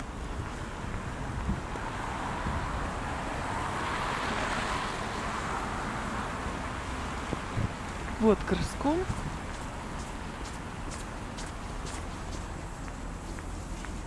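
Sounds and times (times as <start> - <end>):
vehicle passing: 0.0 - 14.0
wind rumbling on microphone: 0.0 - 14.0.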